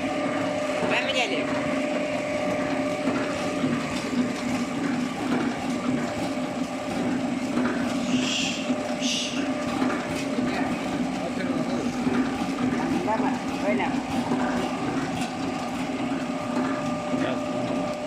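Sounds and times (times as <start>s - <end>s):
packaging machine humming: 0.0s - 18.0s.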